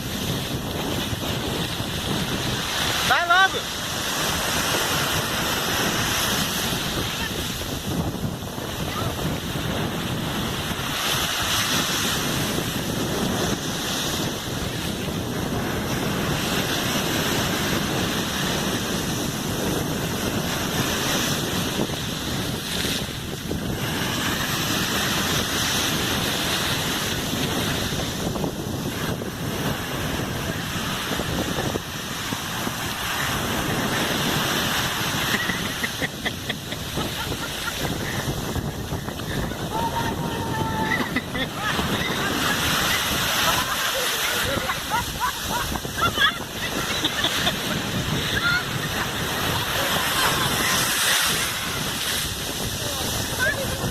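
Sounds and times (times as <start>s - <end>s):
ocean surf on beach: 0.0s - 53.9s.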